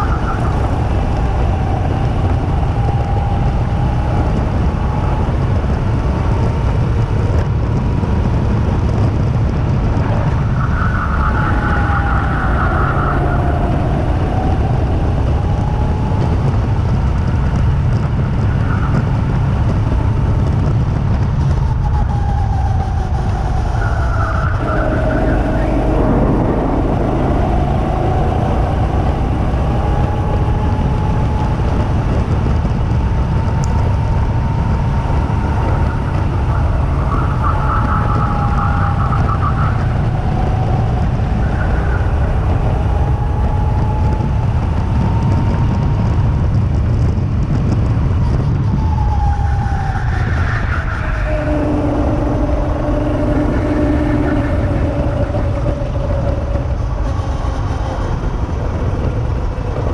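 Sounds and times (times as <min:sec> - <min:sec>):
go-kart engine whine: 0:00.0 - 0:59.9
wind noise on microphone: 0:00.0 - 0:59.9.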